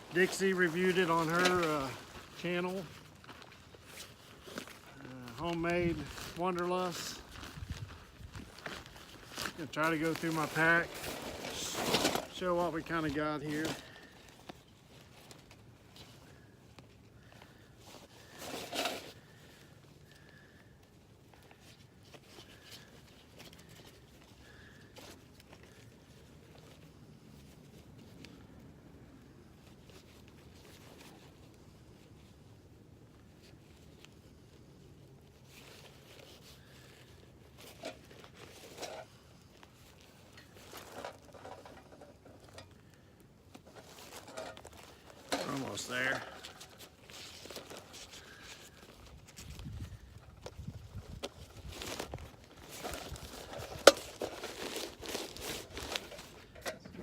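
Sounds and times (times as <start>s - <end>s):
backpack and gear rustling: 0.0s - 57.0s.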